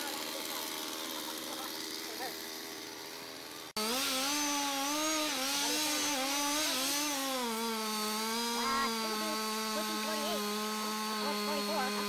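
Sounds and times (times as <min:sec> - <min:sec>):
chainsaw cutting tree: 0:00.0 - 0:12.0.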